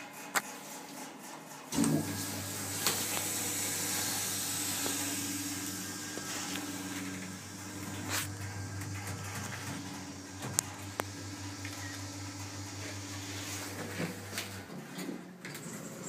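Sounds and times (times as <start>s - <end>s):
hydraulic pump motor humming: 1.7s - 16.0s.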